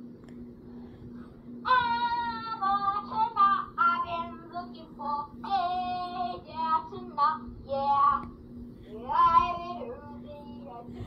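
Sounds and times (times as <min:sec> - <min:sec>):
faint steady hum: 0:00.0 - 0:11.0
child singing through speaker: 0:01.7 - 0:11.0.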